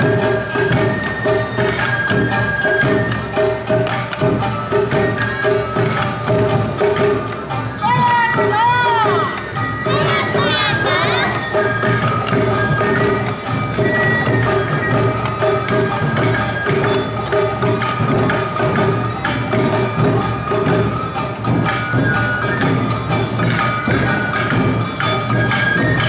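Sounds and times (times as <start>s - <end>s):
bamboo flute notes: 0.0s - 26.0s
drums in driving rhythm: 0.0s - 26.0s
gongs clanging: 0.0s - 26.0s.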